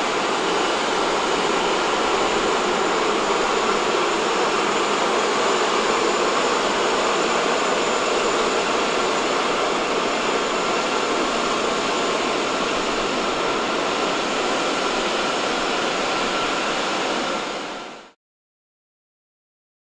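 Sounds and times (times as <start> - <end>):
jet engines running: 0.0 - 18.2.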